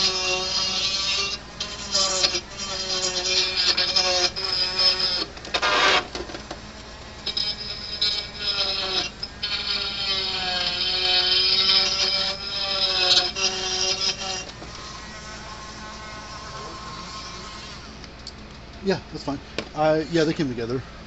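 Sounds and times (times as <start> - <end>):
small electric motor whirring: 0.0 - 18.5, 19.2 - 20.7.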